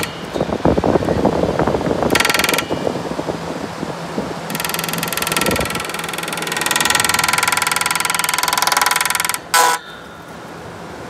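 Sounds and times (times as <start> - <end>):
air conditioner fan running: 0.0 - 11.0.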